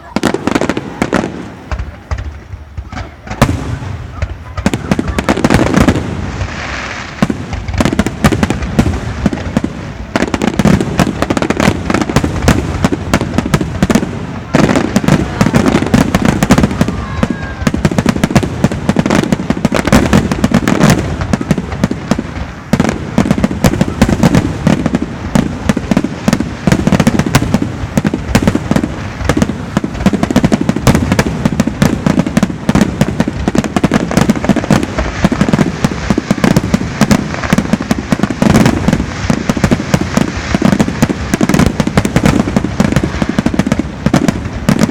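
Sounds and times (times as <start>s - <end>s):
fireworks booming and crackling: 0.0s - 44.9s.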